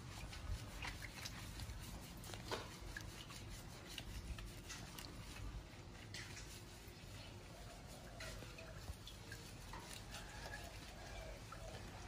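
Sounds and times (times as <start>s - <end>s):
hands rubbing wet fur: 0.0s - 12.0s.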